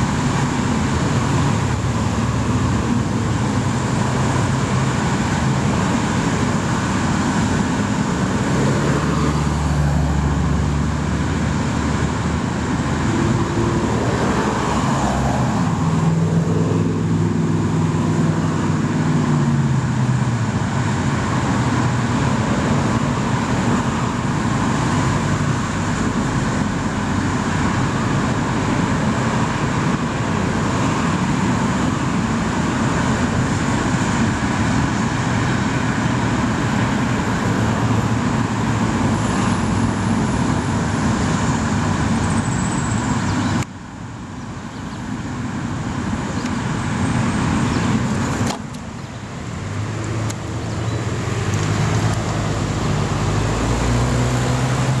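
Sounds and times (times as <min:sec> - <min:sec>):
car passing close: 0:00.0 - 0:43.6, 0:46.0 - 0:55.0
road traffic passing: 0:00.0 - 0:55.0.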